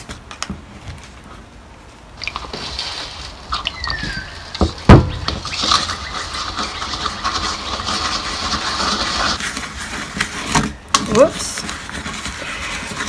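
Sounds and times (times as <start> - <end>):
stick scraping wet concrete: 2.3 - 13.0.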